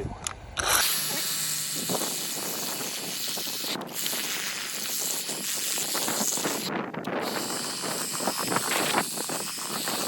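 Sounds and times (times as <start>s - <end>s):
pressure washer spray hissing: 0.8s - 10.0s.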